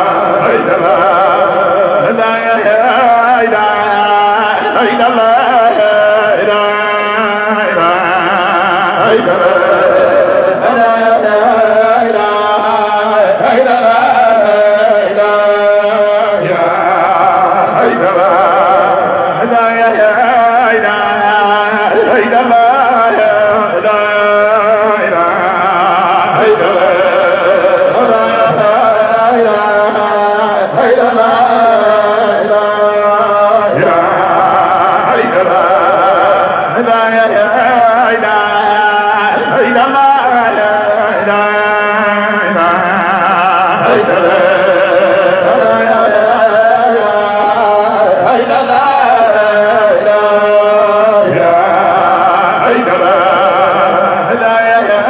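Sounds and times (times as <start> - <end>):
man chanting into a microphone: 0.0 - 55.0.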